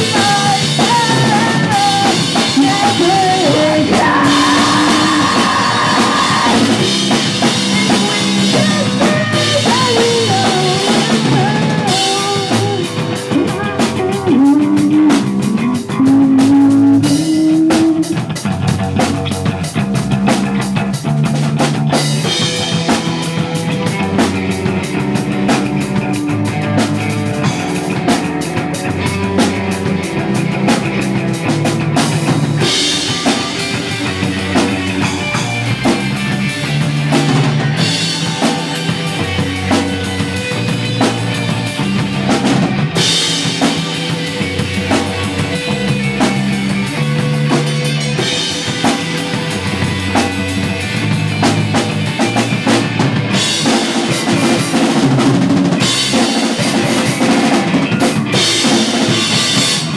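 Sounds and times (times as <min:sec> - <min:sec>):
drum kit beating: 0:00.0 - 0:59.9
punk band playing live: 0:00.0 - 0:59.9
sliding melodic guitar line: 0:00.0 - 0:59.9.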